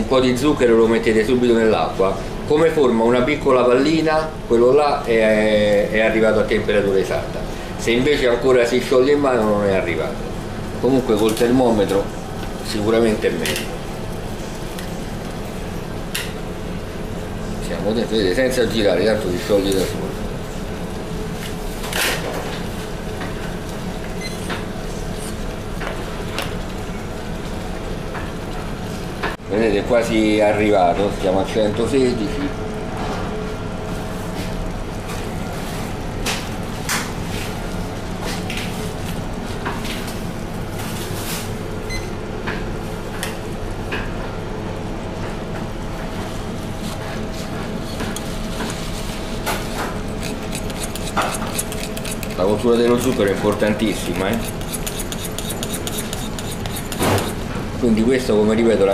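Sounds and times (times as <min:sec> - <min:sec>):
mechanical hum: 0:00.0 - 0:58.9
sugar syrup boiling crackles: 0:05.1 - 0:29.2, 0:33.4 - 0:43.9, 0:45.6 - 0:58.6.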